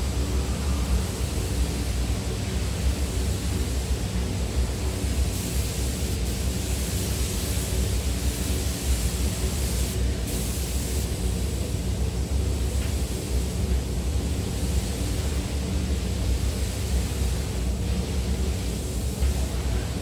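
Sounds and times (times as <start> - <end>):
ventilation fans rushing and humming: 0.0 - 20.0.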